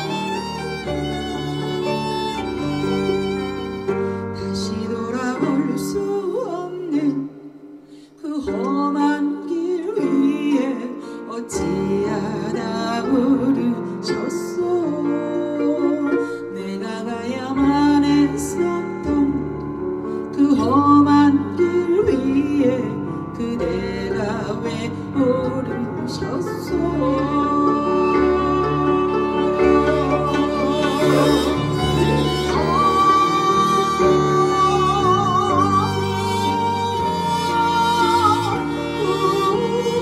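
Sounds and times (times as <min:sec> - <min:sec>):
instrumental accompaniment: 0:00.0 - 0:40.0
person singing with vibrato: 0:04.4 - 0:19.5, 0:20.3 - 0:40.0.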